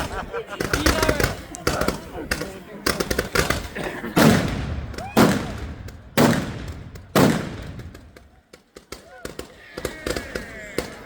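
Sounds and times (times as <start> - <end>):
fireworks bangs echoing: 0.0 - 11.0
fireworks crackling: 0.0 - 11.0.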